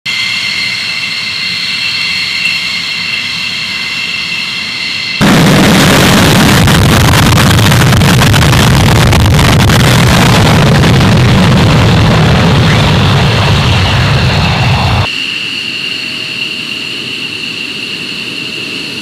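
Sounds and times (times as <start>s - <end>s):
jet engine whine: 0.0s - 19.0s
jet engine roar: 0.1s - 19.0s.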